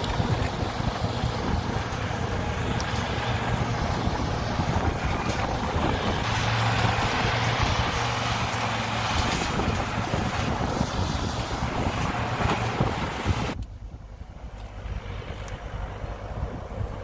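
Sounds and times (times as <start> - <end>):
diesel engine running: 0.0 - 17.0
wind buffeting microphone: 0.0 - 17.0.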